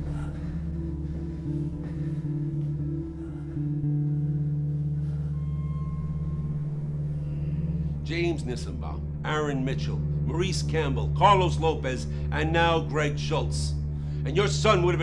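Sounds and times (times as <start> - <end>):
low sustained drone: 0.0 - 15.0.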